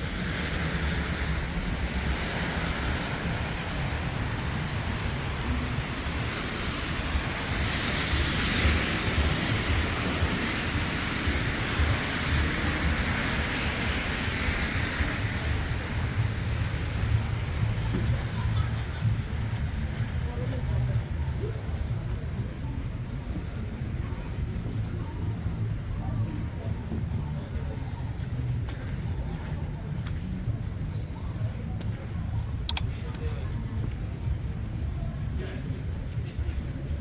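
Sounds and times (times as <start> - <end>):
street noise hiss: 0.0 - 37.0.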